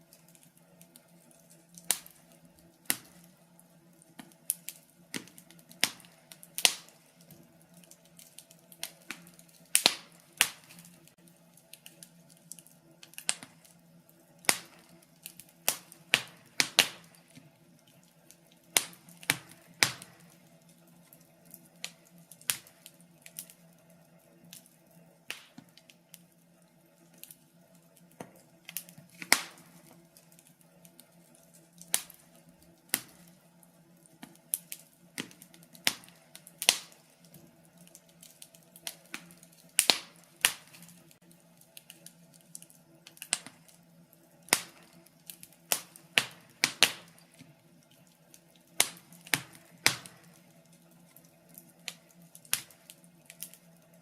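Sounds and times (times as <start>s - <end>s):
faint steady hum: 0.0s - 54.0s
wood fire crackling: 0.0s - 54.0s.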